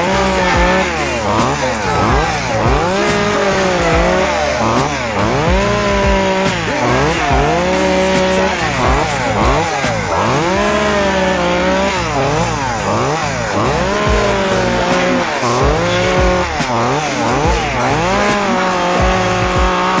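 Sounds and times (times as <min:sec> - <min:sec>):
chainsaw running at high revs: 0:00.0 - 0:20.0.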